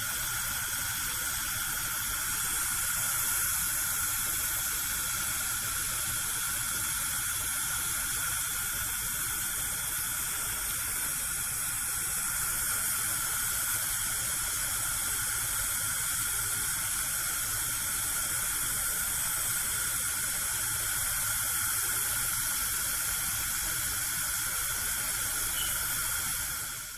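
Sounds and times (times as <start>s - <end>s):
gas burner flame hissing: 0.0s - 26.9s.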